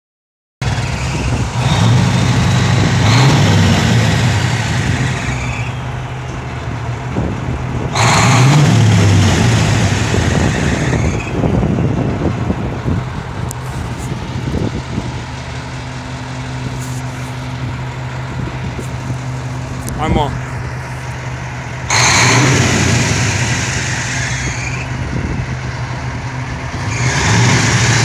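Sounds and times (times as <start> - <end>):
diesel truck engine revving: 0.6 - 28.0.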